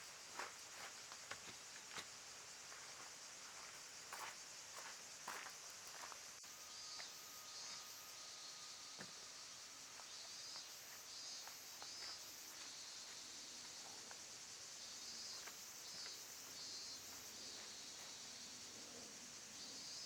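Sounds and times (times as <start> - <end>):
insects buzzing and chirping: 0.0 - 20.0.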